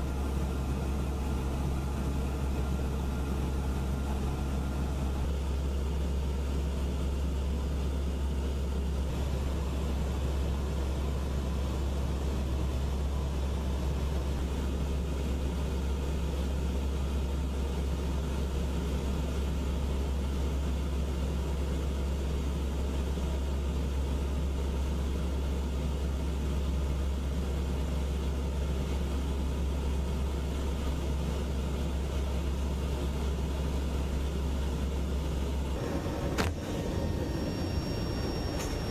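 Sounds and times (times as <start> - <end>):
engine drone inside vehicle cabin: 0.0 - 38.9.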